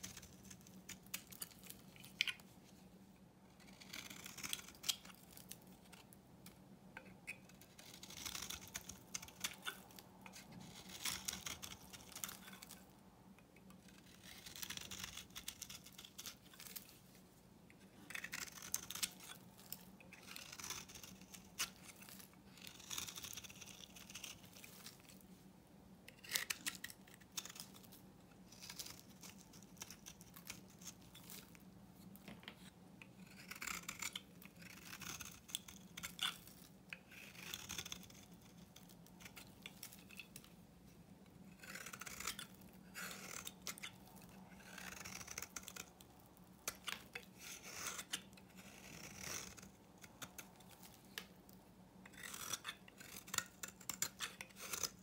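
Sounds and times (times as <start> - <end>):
knife scraping soap: 0.0 - 2.5, 3.4 - 6.1, 7.0 - 12.9, 13.6 - 17.0, 17.8 - 25.2, 26.1 - 40.5, 41.4 - 55.0.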